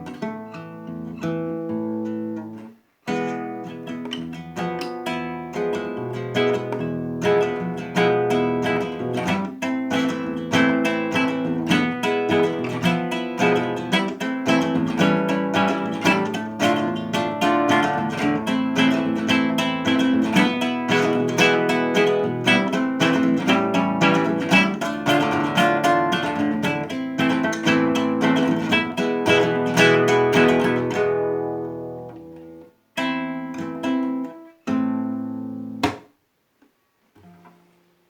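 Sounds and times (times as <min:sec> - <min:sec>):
acoustic guitar strumming: 0:00.0 - 0:36.2.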